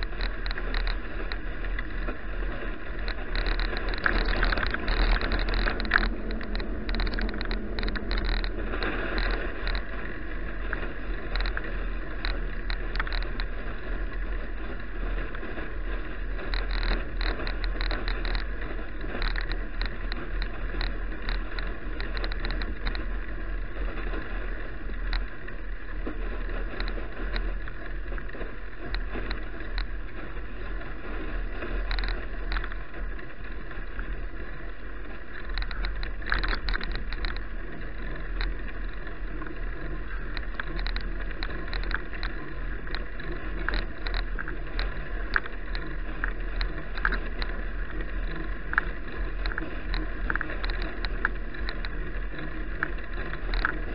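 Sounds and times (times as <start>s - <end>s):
bicycle clicks and rattles: 0.0s - 53.9s
wind rumble over microphone: 0.0s - 53.9s.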